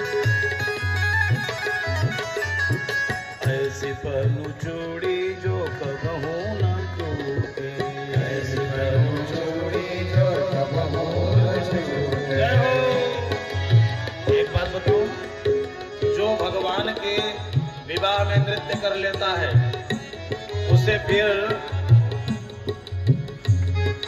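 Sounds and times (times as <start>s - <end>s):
tabla drumming: 0.0s - 24.0s.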